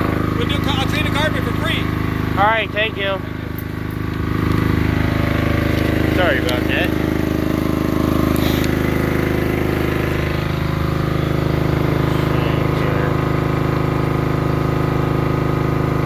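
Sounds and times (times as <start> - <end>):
portable generator engine running: 0.0 - 16.0.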